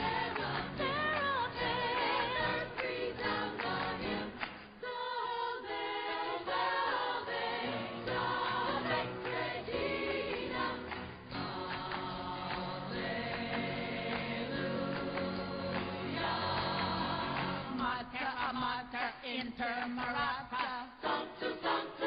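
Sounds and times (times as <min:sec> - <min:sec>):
choir of voices: 0:00.0 - 0:22.0.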